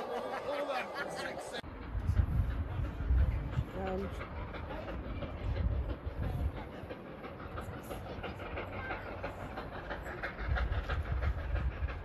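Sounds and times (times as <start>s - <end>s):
train rumbling and clattering: 0.0s - 12.0s.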